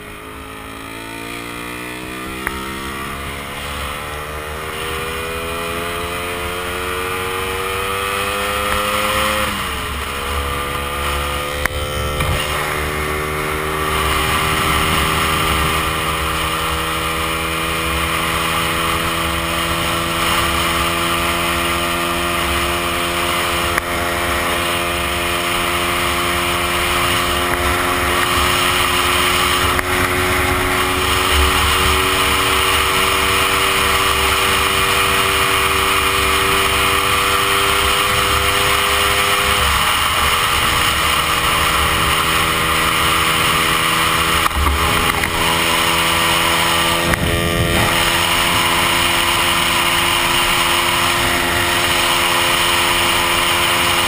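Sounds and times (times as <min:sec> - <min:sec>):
scooter two-stroke engine running: 0:00.0 - 0:54.0.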